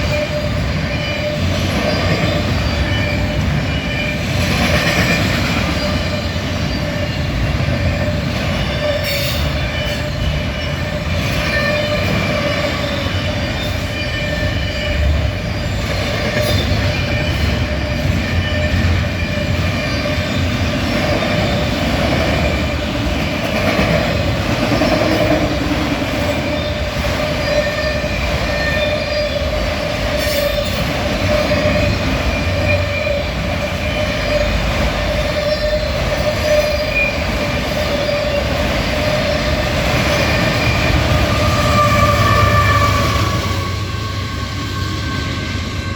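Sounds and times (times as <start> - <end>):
rumble of train cars: 0.0 - 45.9
train wheels squealing: 0.0 - 45.9.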